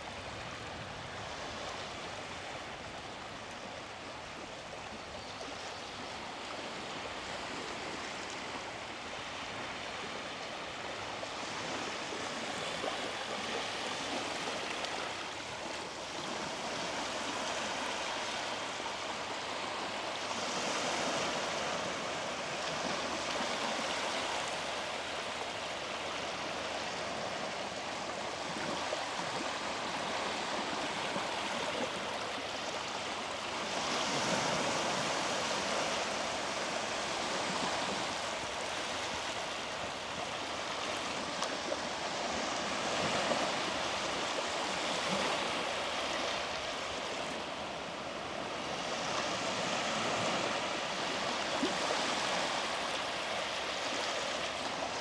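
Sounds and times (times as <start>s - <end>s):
waves washing onto a beach: 5.5s - 55.0s.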